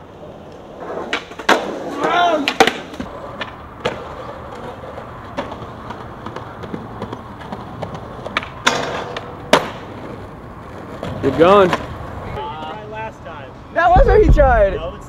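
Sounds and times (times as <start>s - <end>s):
skateboard wheels rolling on concrete: 0.0s - 15.0s
skateboard impacts: 0.2s - 13.0s.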